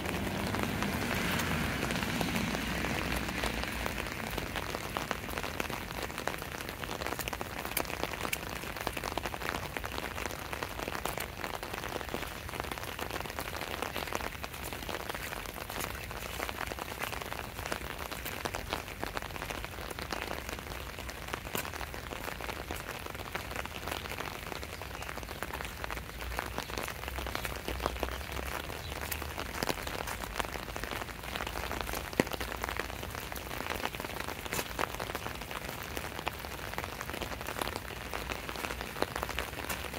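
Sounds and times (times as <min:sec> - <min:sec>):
raindrops pattering close by: 0:00.0 - 0:39.9
steady rain falling: 0:00.0 - 0:39.9.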